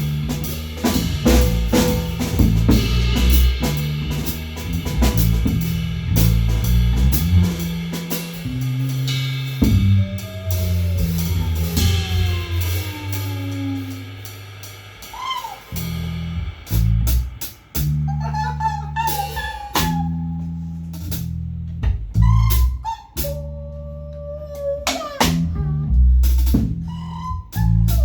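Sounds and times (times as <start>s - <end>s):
drum kit: 0.0s - 23.5s, 24.9s - 28.0s
bass: 0.0s - 28.0s.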